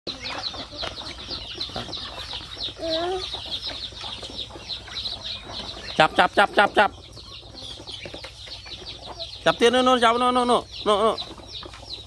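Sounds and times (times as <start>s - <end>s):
chicks and ducklings peeping: 0.1s - 12.0s
hens clucking: 0.1s - 12.0s.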